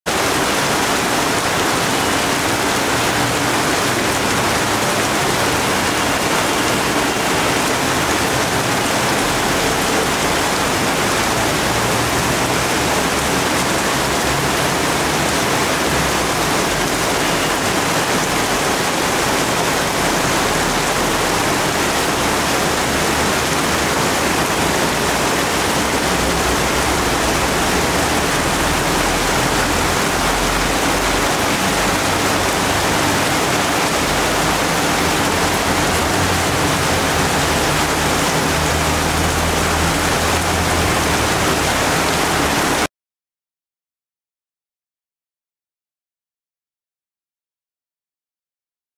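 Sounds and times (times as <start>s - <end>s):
heavy rain on leafy trees: 0.0s - 42.9s.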